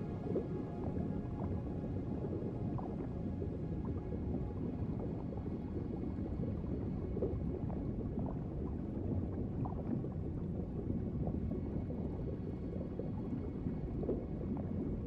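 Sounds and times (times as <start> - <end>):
muffled underwater rush: 0.0 - 15.0.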